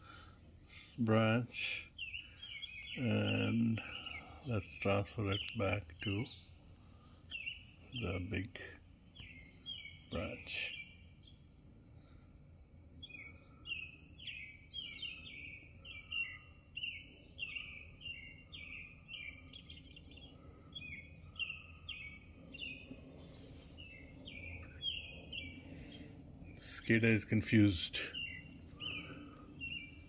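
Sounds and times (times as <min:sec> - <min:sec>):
songbird chirping: 0:00.0 - 0:30.0.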